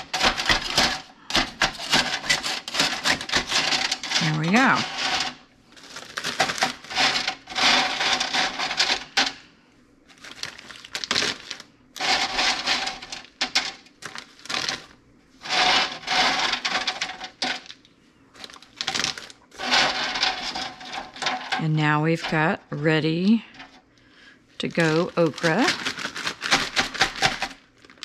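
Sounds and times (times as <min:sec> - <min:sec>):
frozen vegetables clattering on wire rack: 0:00.0 - 0:09.4, 0:10.1 - 0:17.8, 0:18.4 - 0:22.8, 0:24.6 - 0:28.0
plastic bag rustling: 0:00.0 - 0:09.4, 0:10.1 - 0:22.7, 0:24.6 - 0:28.0.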